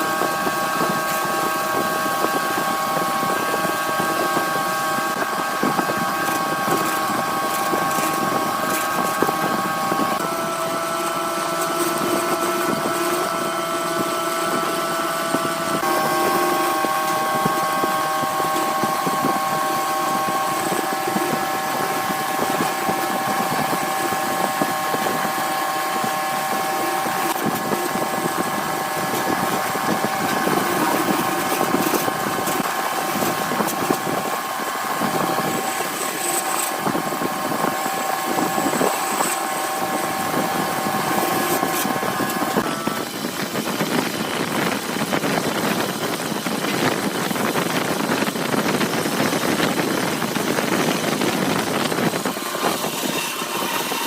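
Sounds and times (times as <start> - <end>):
wood lathe motor whine: 0.0 - 54.0.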